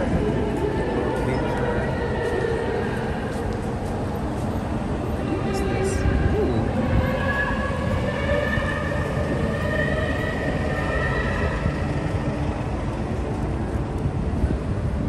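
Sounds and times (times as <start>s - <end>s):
long drawn-out pitched tones: 0.0s - 15.0s
low rumble of city traffic: 0.0s - 15.0s.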